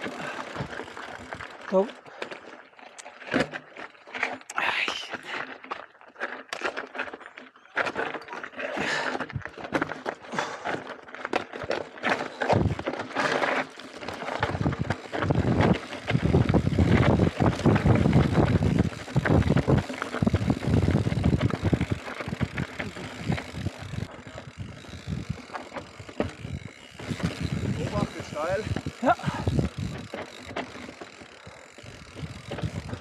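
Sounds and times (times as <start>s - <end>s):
bike rattling over bumps: 0.0s - 4.4s, 5.4s - 33.0s
tyres crunching over gravel: 5.4s - 33.0s.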